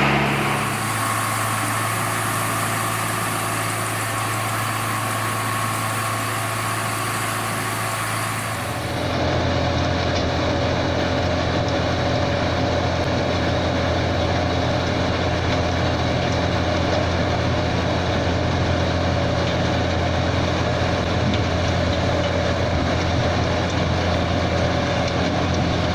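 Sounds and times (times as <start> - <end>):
machine engine running: 0.0 - 25.9.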